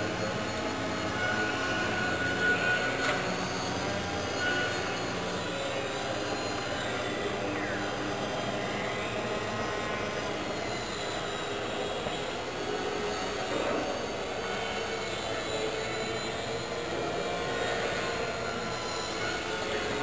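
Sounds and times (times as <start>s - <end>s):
model aircraft motors whining: 0.0s - 20.0s.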